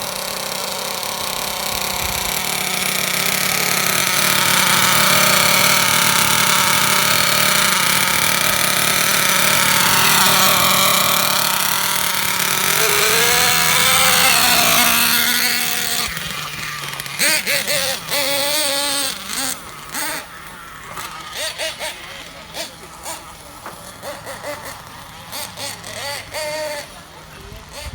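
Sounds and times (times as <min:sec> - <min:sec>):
toy truck engine at high revs: 0:00.0 - 0:27.9.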